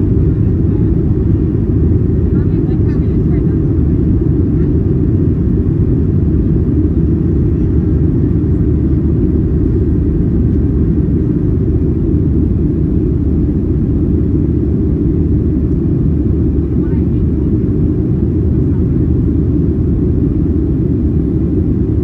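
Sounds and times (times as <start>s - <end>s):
jet engine noise inside cabin: 0.0s - 22.0s.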